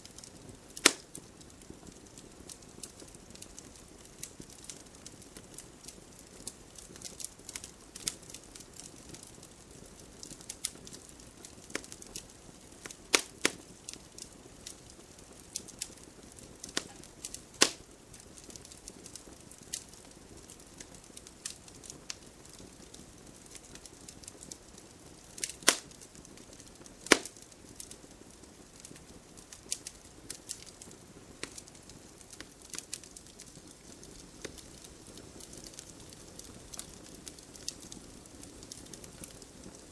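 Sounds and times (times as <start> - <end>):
campfire crackling: 0.0 - 39.9
loud fire pops: 0.0 - 39.9.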